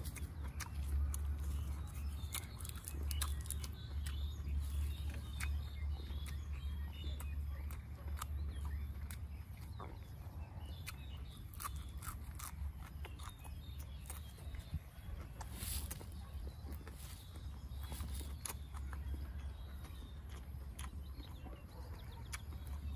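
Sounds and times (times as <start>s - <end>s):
crunchy vegetable chewing: 0.0s - 22.9s
steady low rumble: 0.0s - 22.9s.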